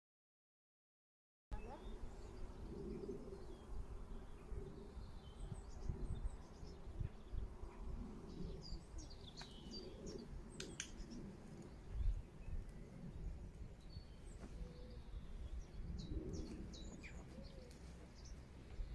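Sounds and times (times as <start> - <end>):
small birds chirping: 1.5 - 18.9.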